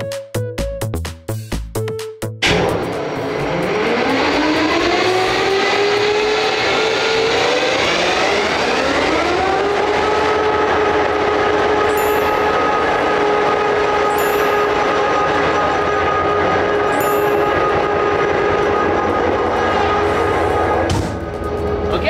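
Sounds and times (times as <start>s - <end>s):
locomotive engine starting up: 2.4s - 22.0s.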